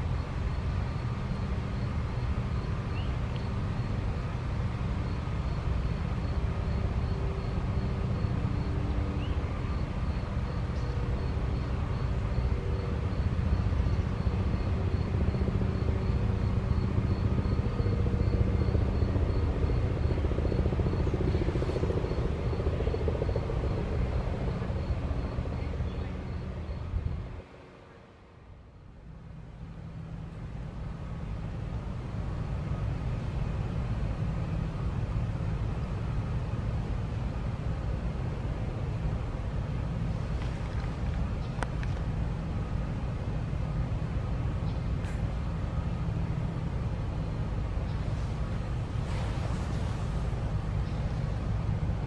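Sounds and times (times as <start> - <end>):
low engine rumble: 0.0 - 52.0.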